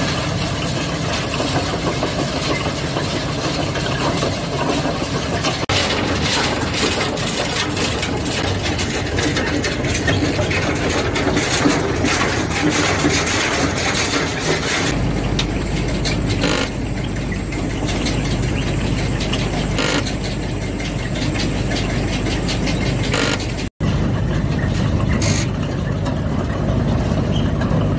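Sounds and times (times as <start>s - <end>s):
soil clattering into hoppers: 0.0s - 23.7s
belt conveyor running: 0.0s - 27.9s
diesel engine running: 0.0s - 27.9s.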